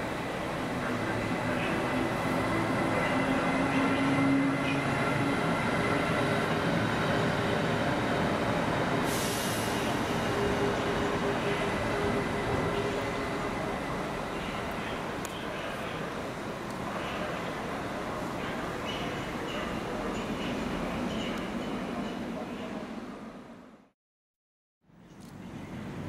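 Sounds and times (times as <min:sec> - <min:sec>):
electric locomotive whine: 0:00.0 - 0:23.8
wheels rumbling on rail: 0:00.0 - 0:23.8.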